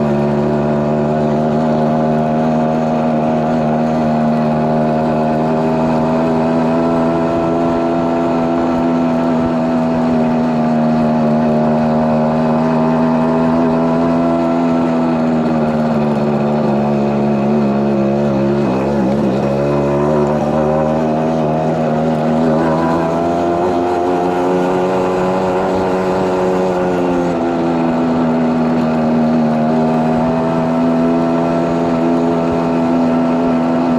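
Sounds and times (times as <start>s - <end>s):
two-stroke engine running: 0.0s - 33.9s.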